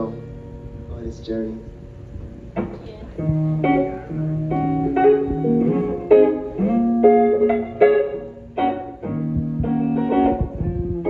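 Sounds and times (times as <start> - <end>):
guitar strumming chords: 2.1 - 11.0.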